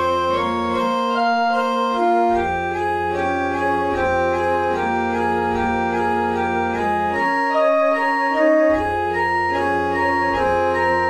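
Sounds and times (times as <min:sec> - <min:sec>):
slow organ-like keyboard chords: 0:00.0 - 0:11.0.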